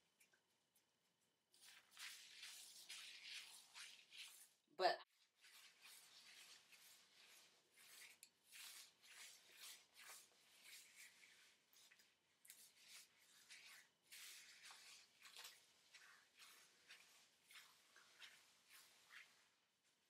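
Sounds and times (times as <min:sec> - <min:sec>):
fingers rustling damp hair: 0:01.5 - 0:20.0.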